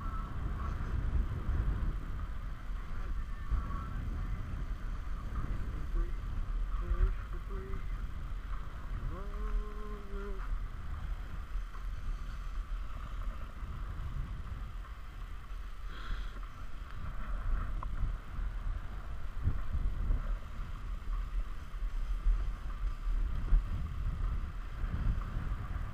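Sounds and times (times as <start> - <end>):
wind buffeting microphone: 0.0 - 25.9
skis sliding across snow: 1.8 - 25.9.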